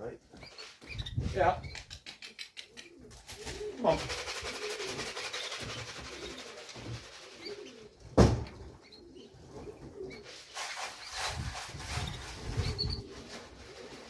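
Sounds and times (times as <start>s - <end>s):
pigeons cooing: 0.6s - 14.0s.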